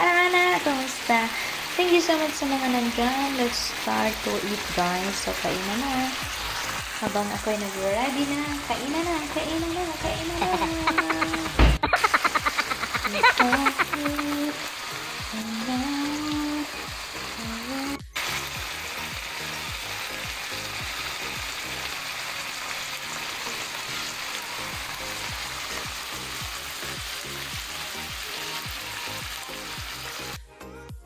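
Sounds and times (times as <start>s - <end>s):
food sizzling in a frying pan: 0.0s - 30.4s.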